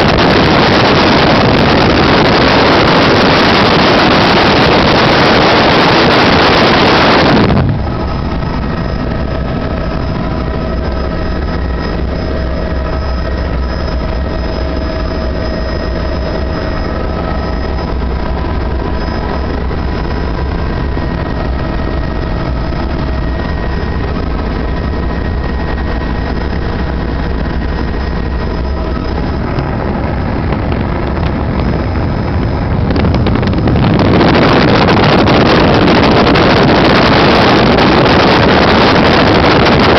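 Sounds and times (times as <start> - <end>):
helicopter flying: 0.0 - 39.9
wind noise on microphone: 0.0 - 39.9.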